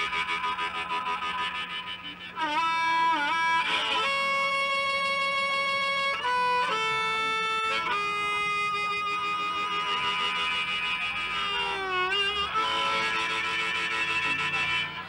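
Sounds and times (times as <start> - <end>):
harmonica melody: 0.0 - 15.0.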